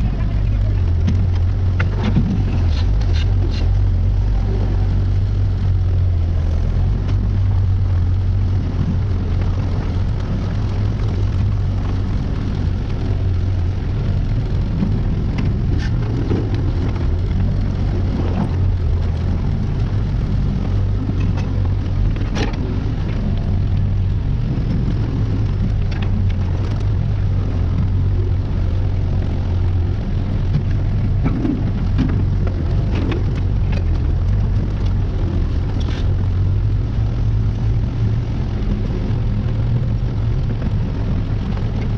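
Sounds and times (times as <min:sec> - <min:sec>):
earthmoving machine engine running: 0:00.0 - 0:41.9.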